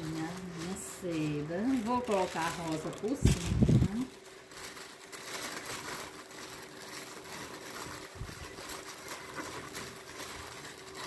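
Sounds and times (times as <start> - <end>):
tissue paper rustling: 0.0 - 11.0.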